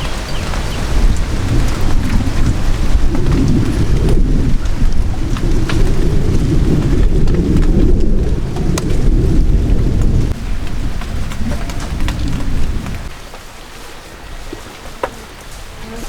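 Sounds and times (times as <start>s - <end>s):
heavy low rumble: 0.0s - 13.1s
rain drops ticking: 0.0s - 16.0s.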